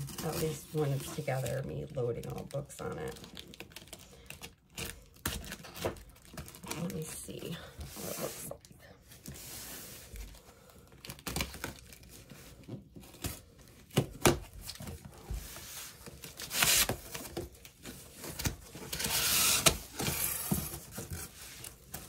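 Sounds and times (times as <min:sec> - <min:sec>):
packaging crinkling and tearing: 0:00.0 - 0:08.6, 0:10.1 - 0:15.0, 0:16.0 - 0:22.0
packaging rustling: 0:00.0 - 0:22.0.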